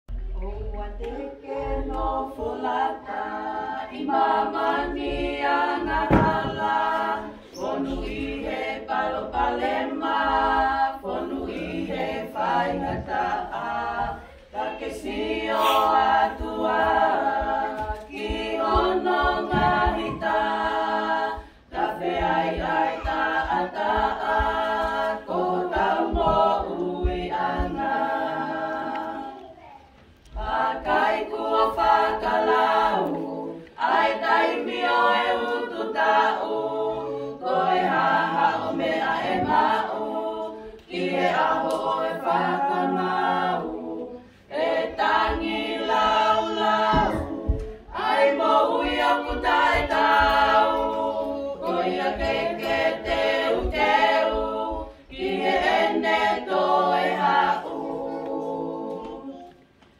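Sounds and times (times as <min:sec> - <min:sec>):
women singing a cappella: 0:00.0 - 0:59.9.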